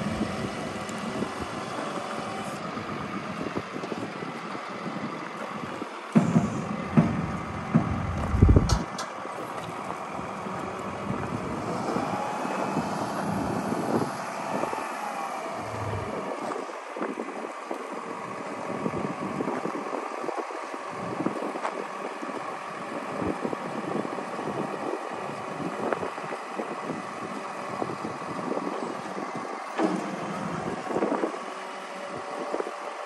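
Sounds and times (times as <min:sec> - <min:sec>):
wind buffeting microphone: 0:00.0 - 0:29.7
diesel engine running: 0:00.0 - 0:33.0
hydraulic whine: 0:00.0 - 0:33.0.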